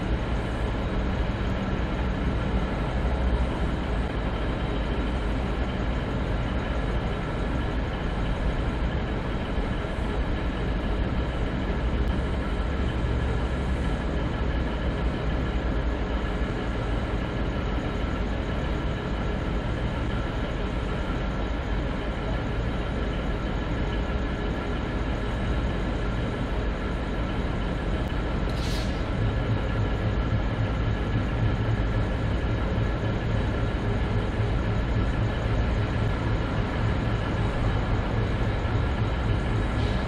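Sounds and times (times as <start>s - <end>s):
diesel locomotive idling: 0.0s - 40.0s
steady whining tones: 0.0s - 40.0s.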